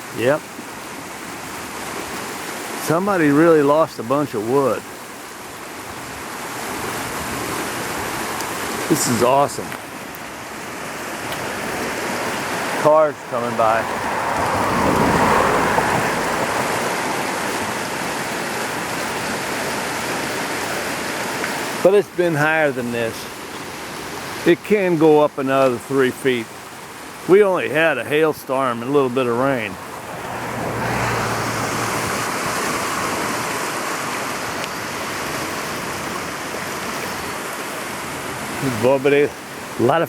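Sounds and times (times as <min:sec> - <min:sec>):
floodwater rushing: 0:00.0 - 0:40.0
car passing on wet road: 0:06.2 - 0:22.6, 0:24.0 - 0:39.8.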